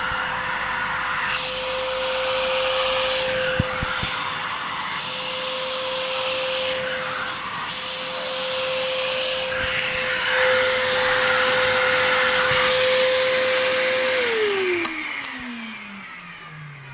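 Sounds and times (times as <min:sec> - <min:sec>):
vacuum cleaner motor whine: 0:00.0 - 0:16.9.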